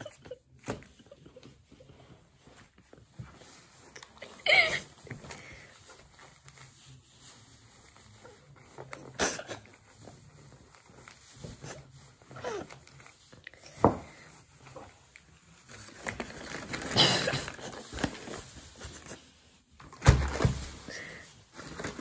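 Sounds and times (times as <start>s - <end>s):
paper napkin rustling: 0.0s - 22.0s.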